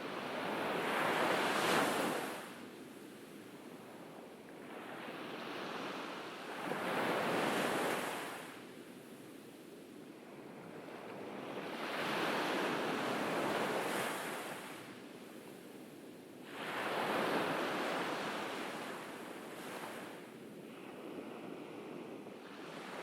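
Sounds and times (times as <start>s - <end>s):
gentle waves breaking on beach: 0.0s - 23.0s.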